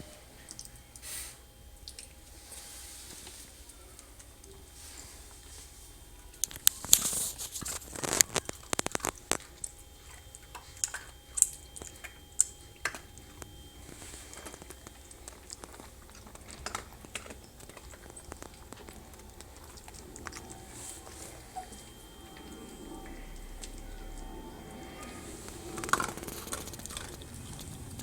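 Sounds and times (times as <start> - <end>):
puppies crunching dry kibble: 0.1 - 28.0.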